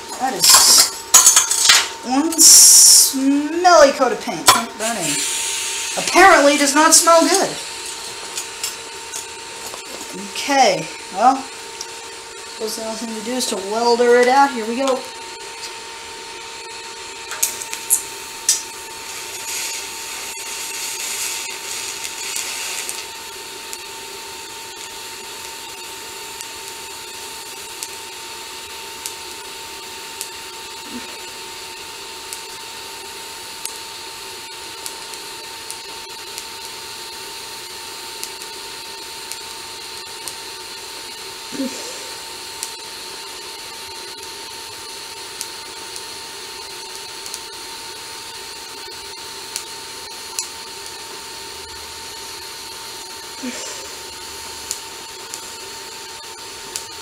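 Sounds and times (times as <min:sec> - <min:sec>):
welding arc hissing: 0:00.0 - 0:57.0
welding machine whine: 0:00.0 - 0:57.0.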